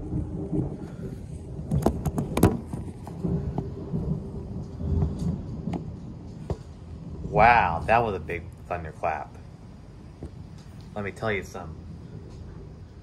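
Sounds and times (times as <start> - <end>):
rain falling: 0.0 - 13.0
sharp thunder cracks: 0.0 - 13.0
thunder rumbling: 0.0 - 13.0.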